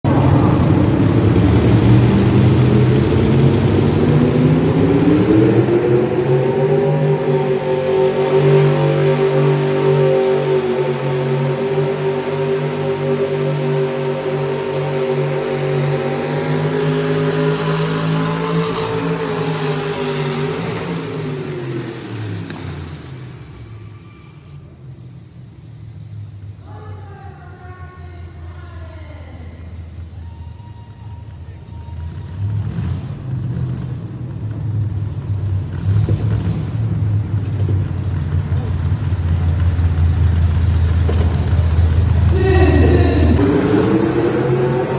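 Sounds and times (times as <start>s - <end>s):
truck engine revving under load: 0.0s - 26.6s, 31.1s - 44.9s.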